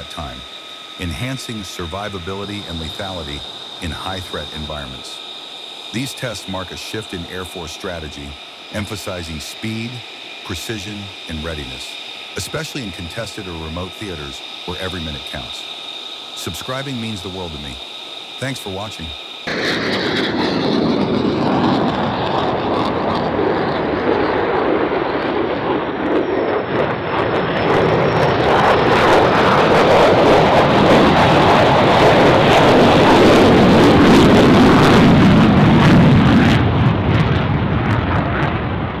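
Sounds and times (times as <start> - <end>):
jet engine roar: 0.0 - 39.0.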